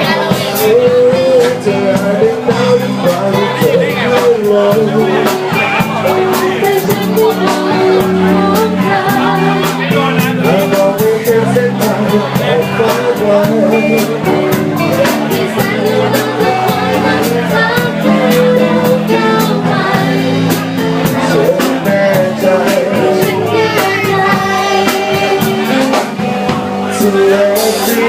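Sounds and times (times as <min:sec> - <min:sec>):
band playing pop-rock song: 0:00.0 - 0:28.0
person singing: 0:00.0 - 0:28.0
steady drum beat: 0:00.0 - 0:28.0.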